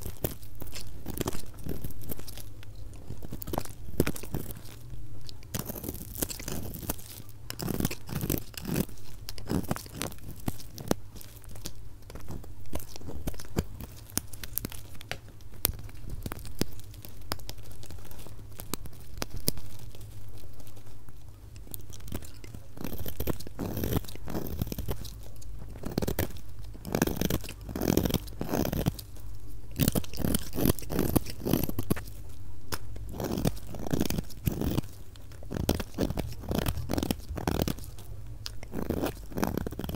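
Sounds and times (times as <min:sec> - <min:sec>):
knife crunching through soap: 0:00.0 - 0:39.9.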